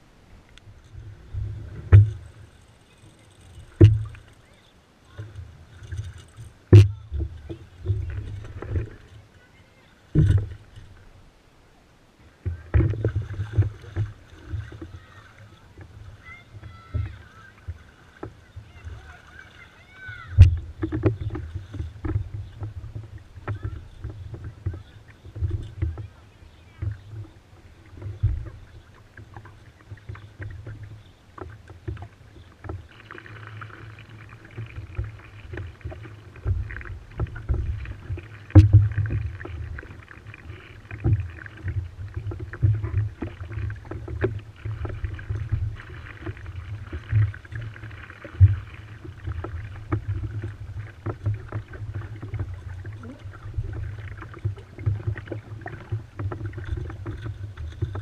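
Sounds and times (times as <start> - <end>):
water rushing along hull: 0.0 - 58.0.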